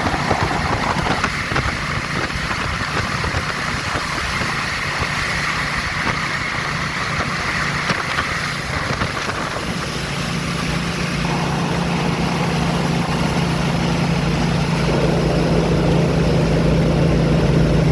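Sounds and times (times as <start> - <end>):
vehicle engine running: 0.0 - 17.9
wind noise on microphone: 0.0 - 17.9.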